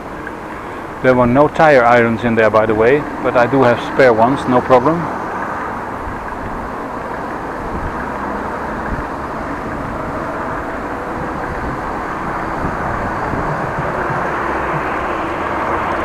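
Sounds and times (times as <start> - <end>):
road traffic rumbling: 0.0 - 16.0
wind: 0.0 - 16.0.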